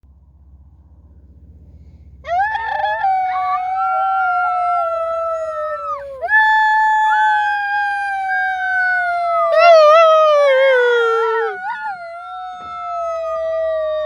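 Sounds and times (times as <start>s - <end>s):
dogs howling: 2.3s - 14.0s.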